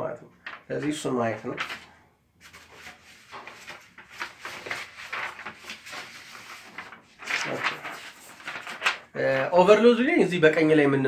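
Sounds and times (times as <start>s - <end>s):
paper rustling and shuffling: 0.4s - 10.0s.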